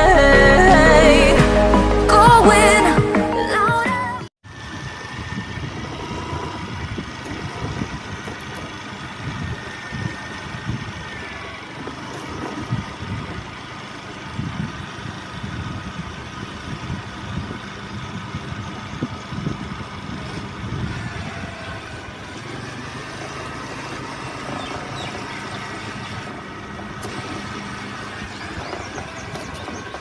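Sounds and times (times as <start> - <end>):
motor scooter engine running: 4.5 - 30.0.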